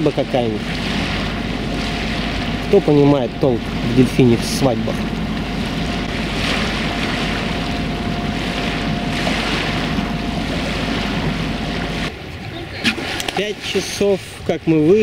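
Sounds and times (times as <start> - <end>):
diesel engine rumbling: 0.0 - 15.0
water rushing along hull: 0.0 - 15.0.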